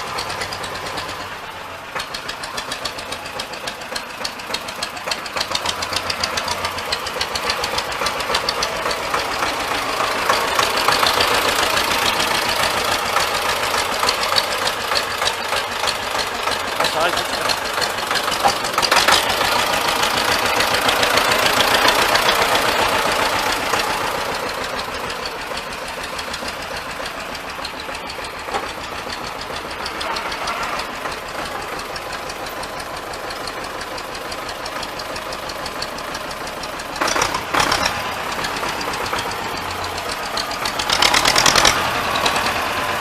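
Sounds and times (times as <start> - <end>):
tractor diesel engine knocking: 0.0 - 43.0.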